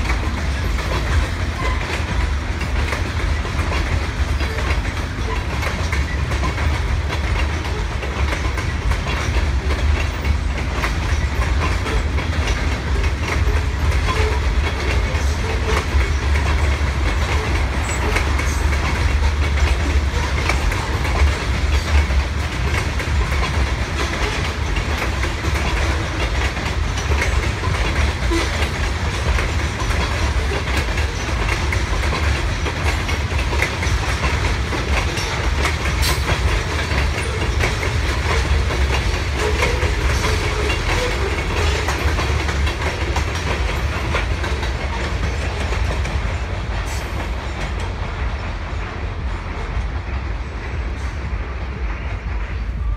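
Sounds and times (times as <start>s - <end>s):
train low rumble: 0.0s - 52.9s
wheels clicking over rail joints: 0.0s - 52.9s.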